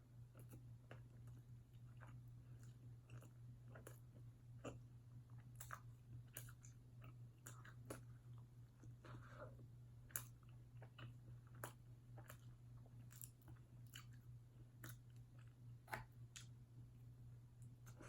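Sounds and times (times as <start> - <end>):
person chewing food: 0.2 - 16.6, 17.6 - 18.0.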